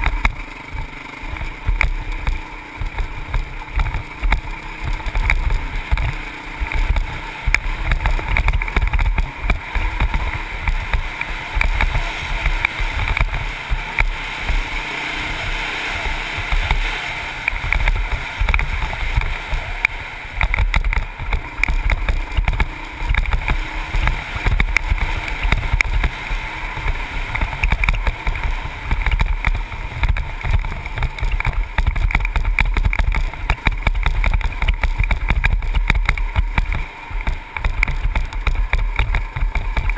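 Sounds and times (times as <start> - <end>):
dirt bike engine running: 0.0 - 39.9
knocks from rough trail: 0.0 - 39.9
wind buffeting microphone: 0.6 - 39.9.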